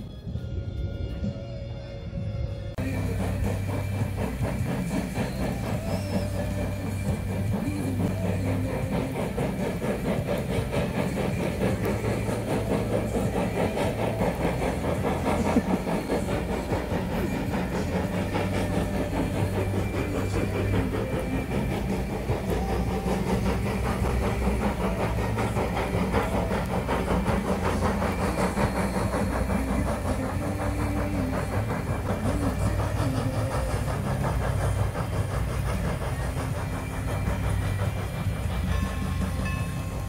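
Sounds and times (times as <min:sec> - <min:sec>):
steam locomotive exhaust and hiss: 0:00.0 - 0:40.0
train cars rolling on rails: 0:00.0 - 0:40.0.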